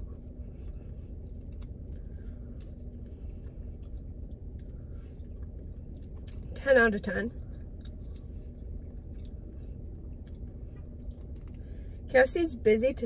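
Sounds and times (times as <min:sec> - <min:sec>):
chewing and mouth sounds: 0:00.0 - 0:12.1
steady low hum: 0:00.0 - 0:13.0.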